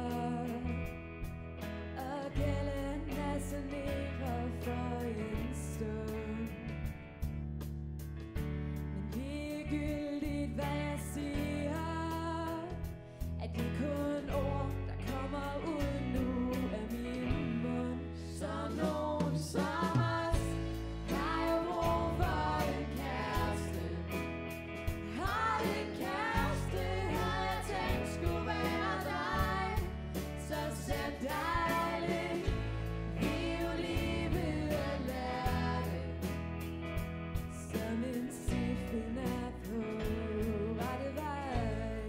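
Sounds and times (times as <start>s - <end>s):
person singing lead vocal: 0.0s - 0.9s, 2.0s - 6.8s, 9.0s - 12.8s, 13.4s - 24.4s, 25.0s - 36.4s, 37.5s - 42.0s
pop song by a band: 0.0s - 7.5s, 8.3s - 42.0s.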